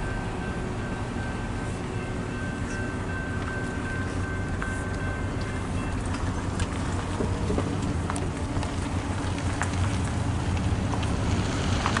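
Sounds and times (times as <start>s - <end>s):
freight train rumbling past: 0.0s - 12.0s
wheels clicking and clanking: 0.0s - 12.0s.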